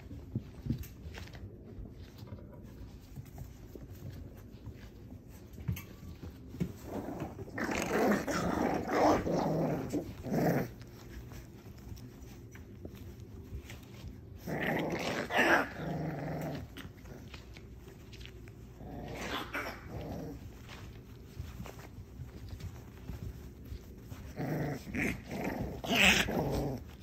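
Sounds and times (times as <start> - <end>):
puppies growling: 0.0 - 27.0.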